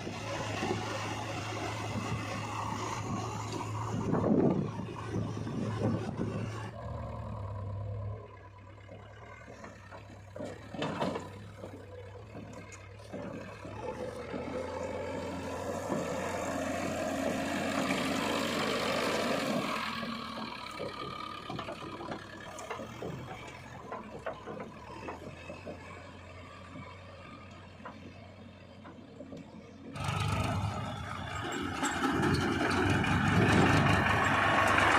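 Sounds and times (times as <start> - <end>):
heavy diesel machinery humming: 0.0 - 34.9.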